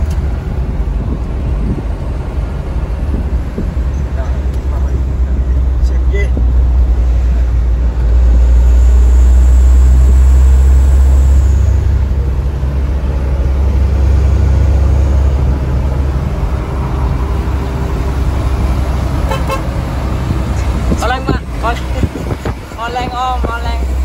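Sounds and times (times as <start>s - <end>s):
truck cab engine and road drone: 0.0s - 24.0s.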